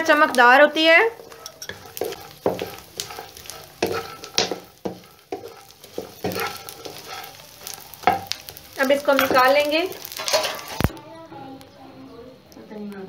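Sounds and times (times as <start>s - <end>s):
spoon scraping a pan: 0.0s - 10.9s
gum frying in oil sizzling: 0.0s - 13.0s.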